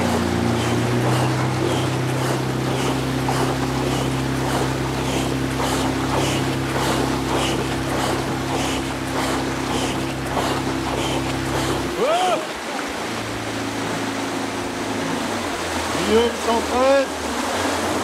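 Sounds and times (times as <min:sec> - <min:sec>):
kayak paddles splashing water: 0:00.0 - 0:18.0
motorboat engine drone: 0:00.0 - 0:18.0.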